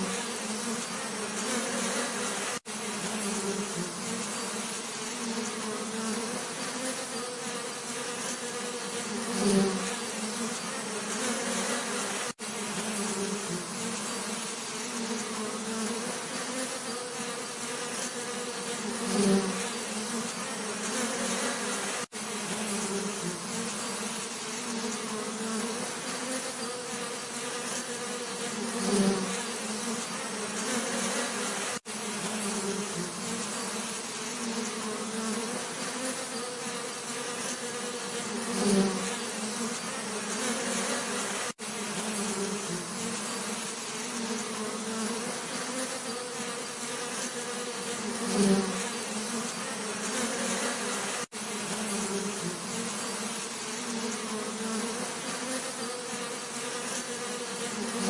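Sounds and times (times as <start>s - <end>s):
bee passing close: 0.0s - 58.0s
bees buzzing: 0.0s - 58.0s.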